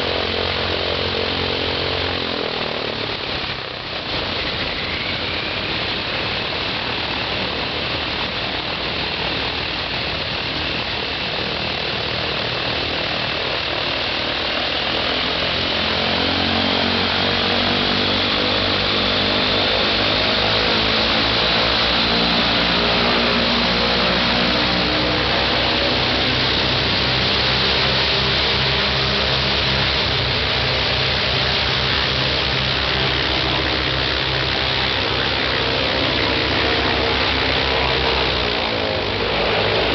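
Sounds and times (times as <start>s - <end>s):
radial engine and propeller running: 0.0s - 39.9s.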